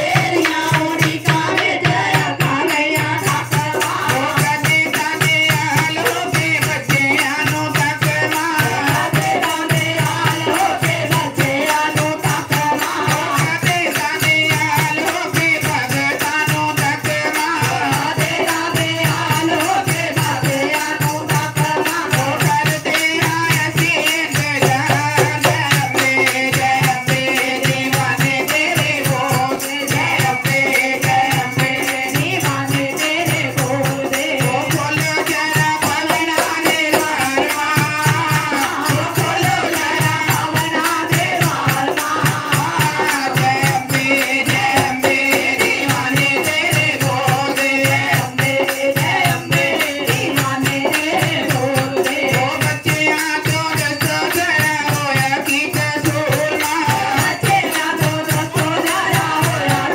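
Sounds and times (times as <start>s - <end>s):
drum beat: 0.0s - 59.9s
jingling hand percussion: 0.0s - 59.9s
women singing through microphones: 0.0s - 59.9s.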